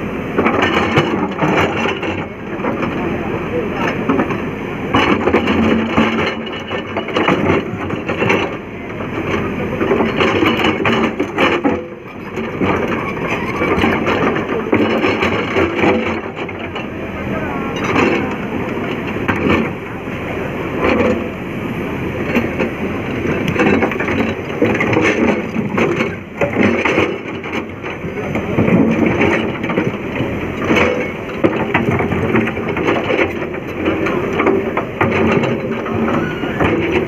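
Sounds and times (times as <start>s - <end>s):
excavator engine running: 0.0s - 37.0s.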